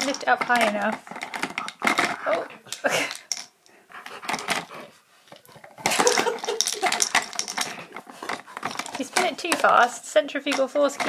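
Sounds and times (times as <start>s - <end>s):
plastic tubes clattering: 0.0s - 11.0s.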